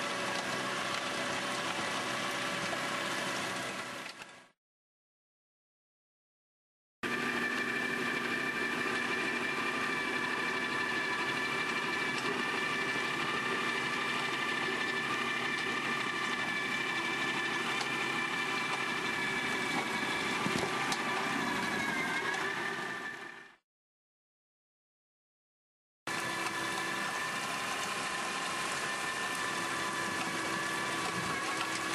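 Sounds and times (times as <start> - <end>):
rotary tiller whine: 0.0 - 4.4, 7.0 - 23.6, 26.1 - 31.9
tractor engine under load: 0.0 - 4.4, 7.2 - 23.5, 26.1 - 31.9.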